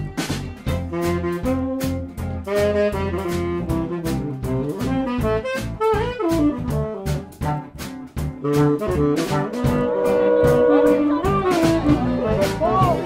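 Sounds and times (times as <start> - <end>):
drum beat: 0.0 - 13.0
jazz horn melody: 0.0 - 13.0.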